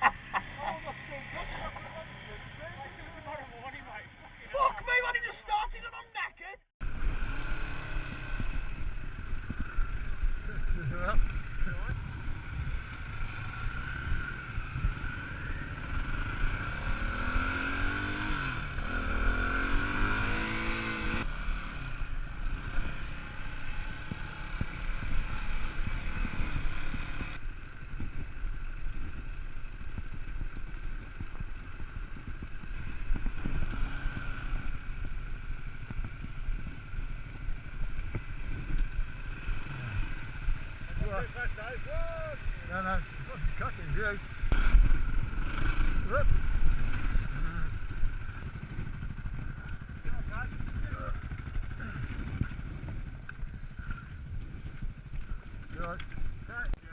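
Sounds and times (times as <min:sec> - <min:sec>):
motorcycle engine revving: 0:00.0 - 0:04.3, 0:06.8 - 0:56.7.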